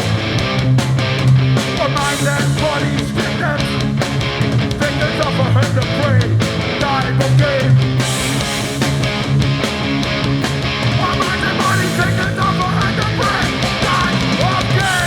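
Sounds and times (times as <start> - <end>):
bass guitar: 0.0 - 15.0
distorted electric guitars: 0.0 - 15.0
drums in fast rhythm: 0.0 - 15.0.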